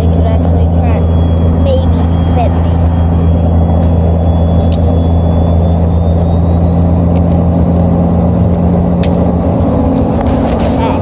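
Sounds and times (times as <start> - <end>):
faint high whine: 0.0 - 11.0
truck drone from inside cab: 0.0 - 11.0.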